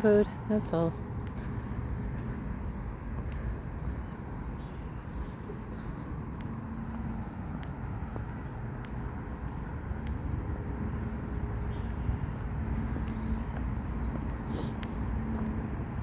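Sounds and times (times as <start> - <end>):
faint footsteps: 0.0 - 16.0
low outdoor rumble: 0.0 - 16.0.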